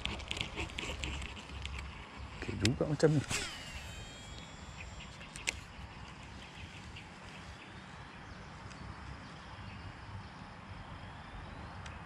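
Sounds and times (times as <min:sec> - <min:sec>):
outdoor background: 0:00.0 - 0:12.0.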